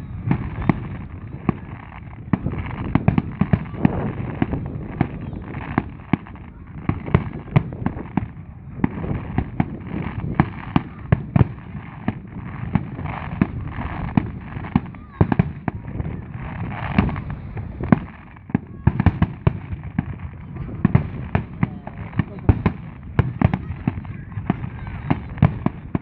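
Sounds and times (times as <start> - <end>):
crowd chatter: 0.0 - 26.0
fireworks bangs: 0.0 - 26.0.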